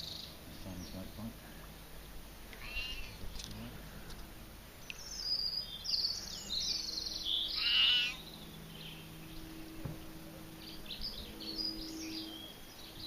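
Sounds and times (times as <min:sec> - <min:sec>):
small bird chirping: 0:00.0 - 0:01.3, 0:02.5 - 0:03.7, 0:04.8 - 0:13.0.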